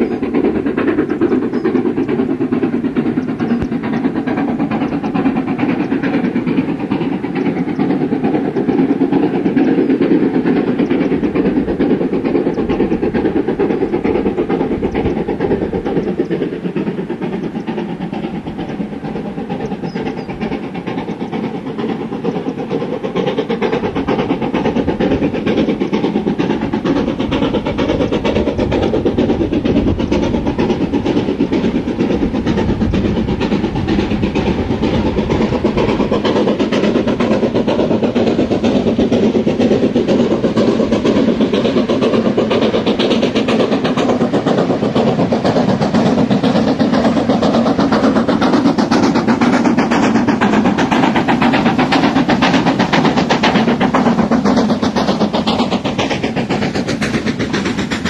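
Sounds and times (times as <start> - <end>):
steam locomotive exhaust beats: 0.0 - 58.0
train rumble: 0.0 - 58.0.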